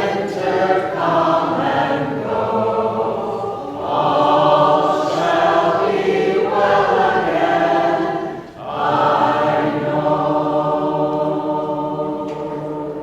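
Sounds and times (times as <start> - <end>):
vocal group singing in harmony: 0.0 - 13.0.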